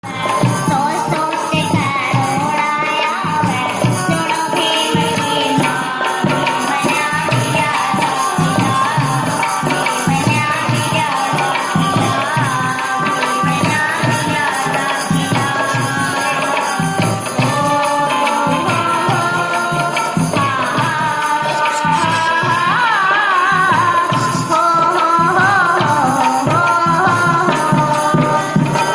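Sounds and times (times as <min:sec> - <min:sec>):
rhythmic percussion beat: 0:00.0 - 0:28.9.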